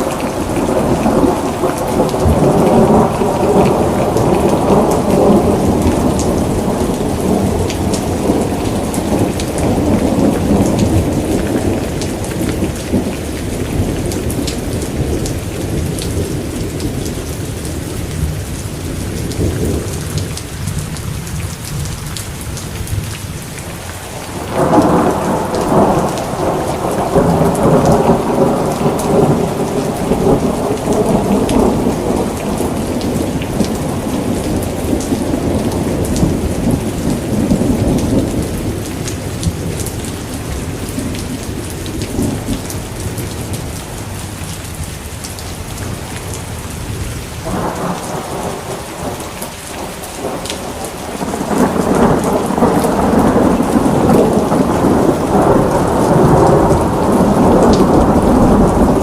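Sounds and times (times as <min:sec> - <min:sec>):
rolling thunder: 0:00.0 - 0:18.5, 0:24.2 - 0:43.8, 0:46.8 - 0:59.0
heavy rain: 0:00.0 - 0:59.0.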